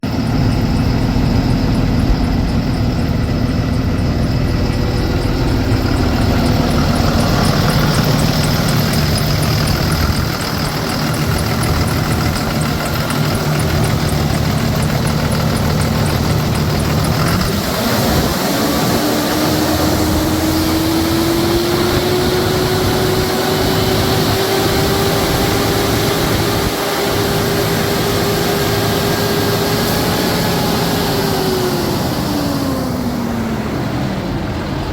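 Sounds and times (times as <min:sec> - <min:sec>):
diesel engine running: 0:00.0 - 0:34.9
rising whine: 0:00.0 - 0:34.9.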